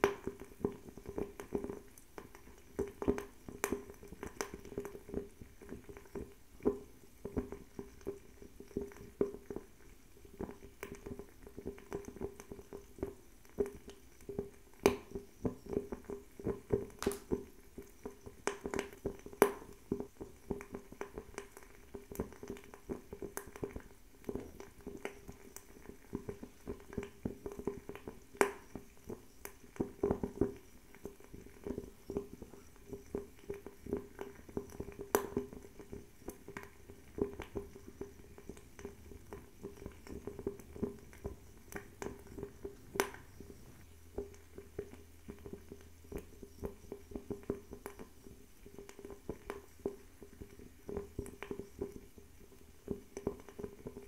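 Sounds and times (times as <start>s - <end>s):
fire crackling and popping: 0.0s - 54.0s
soft flame sound: 0.0s - 54.0s.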